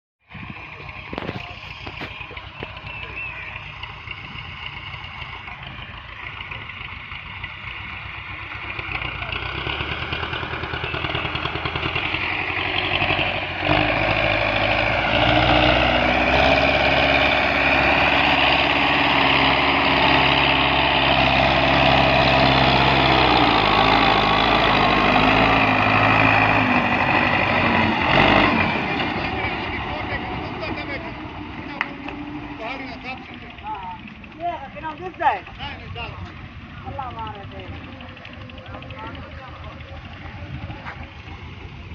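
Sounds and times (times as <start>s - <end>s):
tractor engine running: 0.3s - 41.9s.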